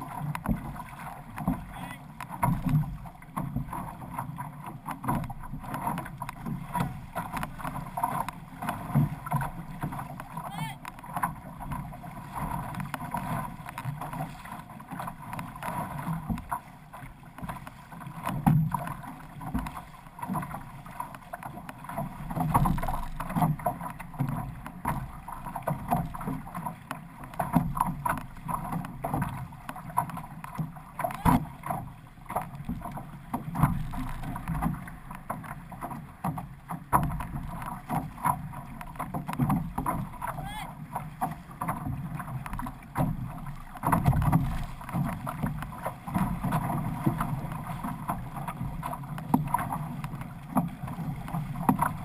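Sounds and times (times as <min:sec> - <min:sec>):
paddle strokes slapping water: 0:00.0 - 0:52.0
water rushing along canoe hull: 0:00.0 - 0:52.0.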